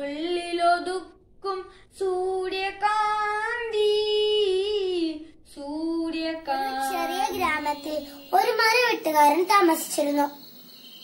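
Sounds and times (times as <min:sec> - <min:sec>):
boy singing unaccompanied: 0:00.0 - 0:10.4.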